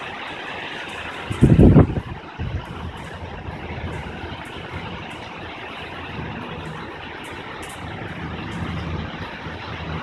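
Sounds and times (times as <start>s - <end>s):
steady hiss of rain: 0.0s - 10.0s
low rolling thunder: 0.9s - 10.0s.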